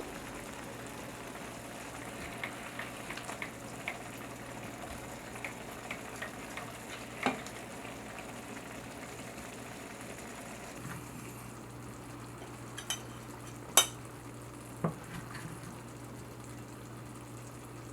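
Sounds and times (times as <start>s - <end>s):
greens sizzling in a pan: 0.0s - 17.9s.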